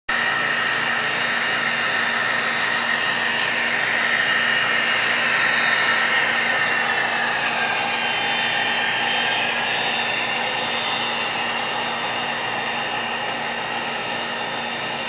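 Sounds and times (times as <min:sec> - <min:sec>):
high steady whine: 0:00.1 - 0:15.0
model train whirring drone: 0:00.1 - 0:15.0.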